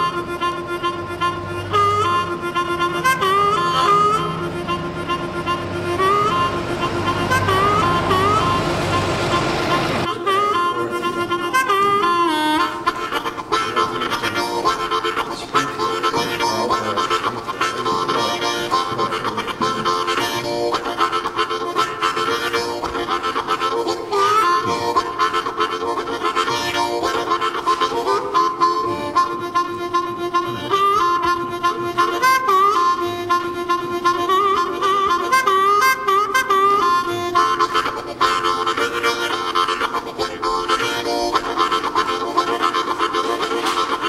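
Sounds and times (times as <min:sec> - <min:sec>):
harmonica music: 0:00.0 - 0:44.0.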